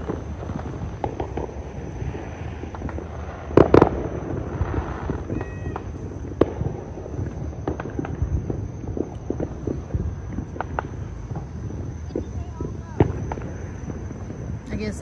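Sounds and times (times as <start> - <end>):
distant firework pops crackling: 0.0 - 15.0
loud close firework bangs: 0.0 - 15.0.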